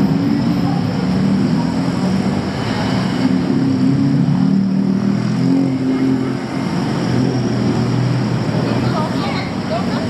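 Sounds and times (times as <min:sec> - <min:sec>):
city traffic din: 0:00.0 - 0:10.0
engine humming: 0:00.0 - 0:10.0.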